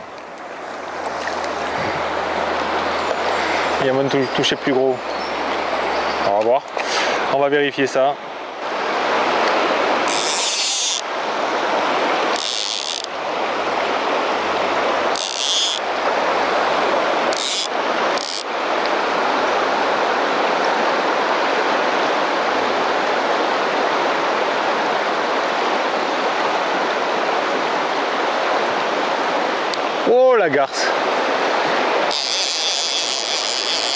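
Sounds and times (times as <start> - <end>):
river current rushing: 0.0 - 33.9.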